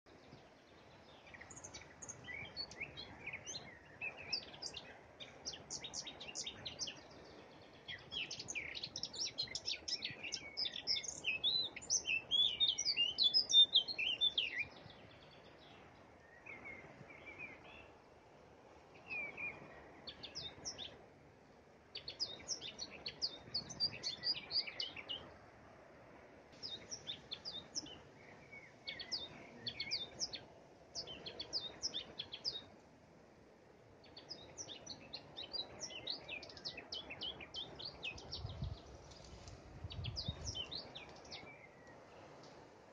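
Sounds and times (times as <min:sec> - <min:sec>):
songbirds chirping: 0:00.0 - 0:42.9
faint steady hiss: 0:00.1 - 0:42.9.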